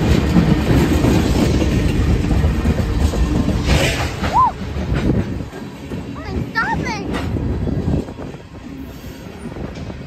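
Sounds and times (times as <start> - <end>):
steel train wheels rumbling on rail: 0.0 - 10.0.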